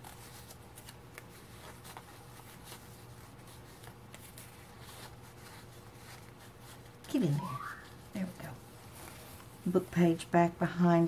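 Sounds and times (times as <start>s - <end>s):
paper cards rustling: 0.0s - 10.8s.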